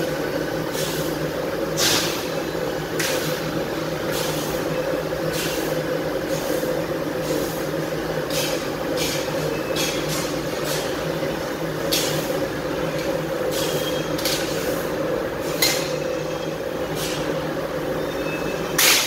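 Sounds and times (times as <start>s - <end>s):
laser cutting machine hum: 0.0s - 19.0s.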